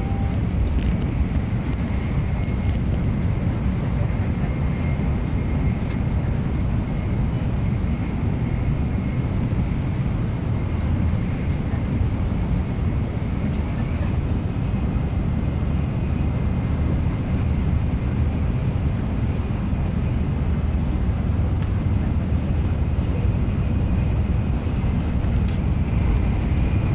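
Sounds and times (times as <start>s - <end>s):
train cabin rumble and hiss: 0.0s - 26.9s.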